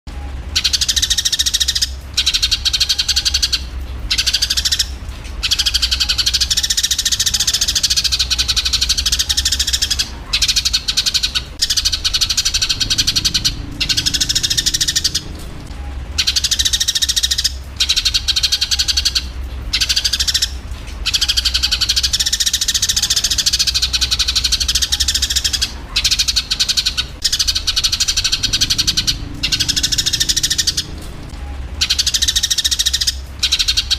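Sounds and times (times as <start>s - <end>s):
steady low hum: 0.1s - 33.9s
sparrows chirping harshly: 0.5s - 33.9s.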